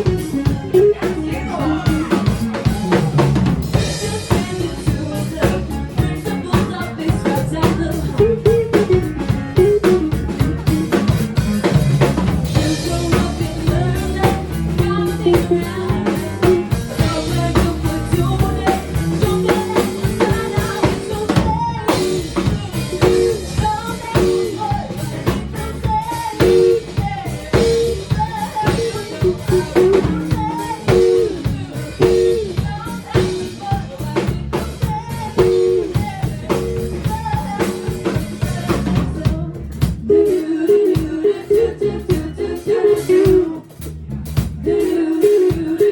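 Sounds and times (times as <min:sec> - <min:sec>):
person singing: 0:00.0 - 0:11.1, 0:12.5 - 0:43.8, 0:44.6 - 0:45.9
drum kit beat: 0:00.0 - 0:45.9
rock band playing live: 0:00.0 - 0:45.9.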